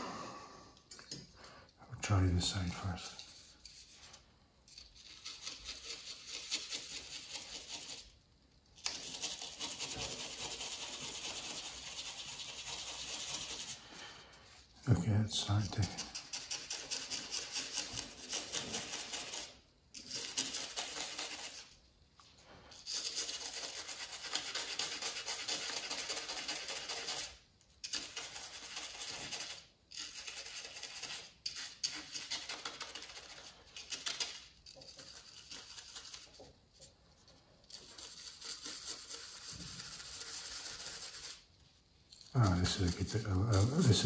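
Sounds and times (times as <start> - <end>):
toothbrush scrubbing: 2.1 - 8.2, 8.8 - 14.1, 15.3 - 21.8, 22.7 - 36.6, 37.6 - 41.6, 42.2 - 44.0.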